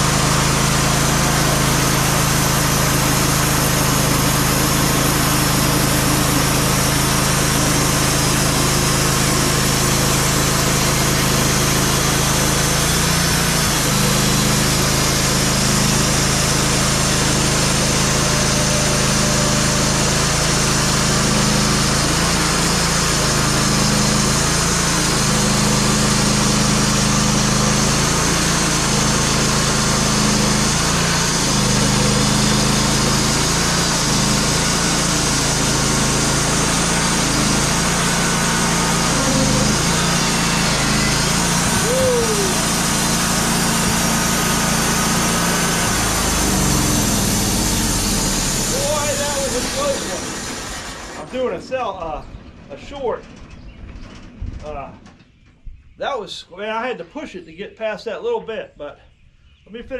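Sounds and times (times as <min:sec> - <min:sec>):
band sawmill engine under load: 0:00.0 - 0:56.2.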